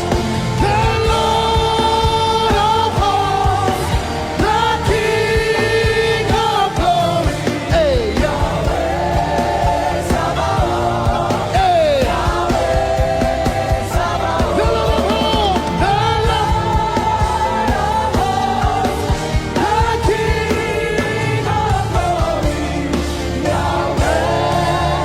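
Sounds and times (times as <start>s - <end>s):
backing voices singing: 0.0s - 25.0s
band playing gospel music: 0.0s - 25.0s.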